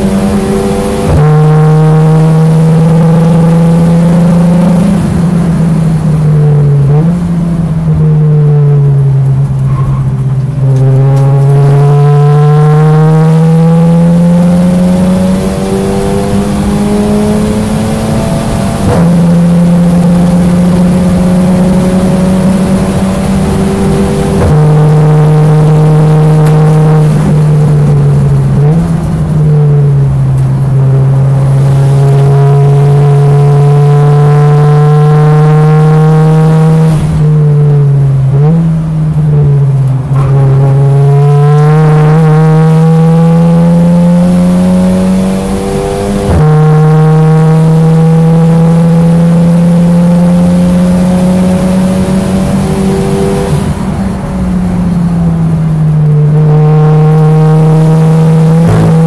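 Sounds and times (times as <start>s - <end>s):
racing car engine under load: 0.0s - 59.0s.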